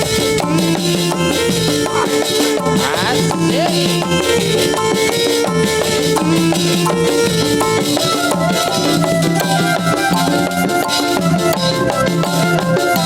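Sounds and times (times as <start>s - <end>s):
drums: 0.0s - 13.0s
melody of held notes: 0.0s - 13.0s
shaker percussion: 0.0s - 13.0s.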